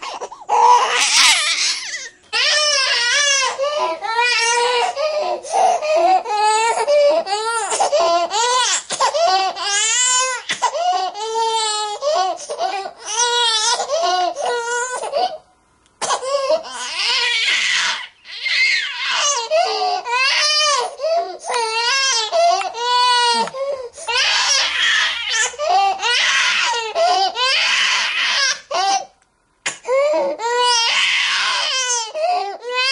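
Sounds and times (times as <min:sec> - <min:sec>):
baby crying: 0:00.0 - 0:15.4, 0:16.0 - 0:29.1, 0:29.7 - 0:32.9.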